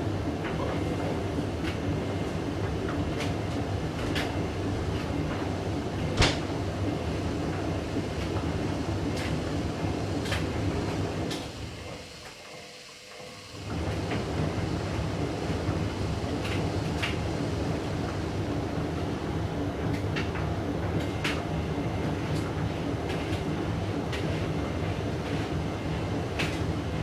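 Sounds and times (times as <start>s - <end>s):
washing machine drum rumbling: 0.1s - 12.2s, 13.6s - 27.0s.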